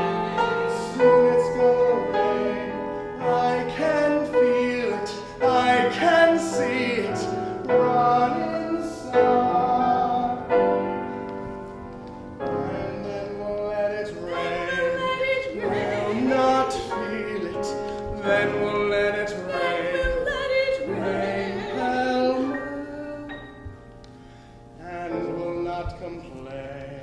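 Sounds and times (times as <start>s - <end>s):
piano accompaniment: 0.0s - 27.0s.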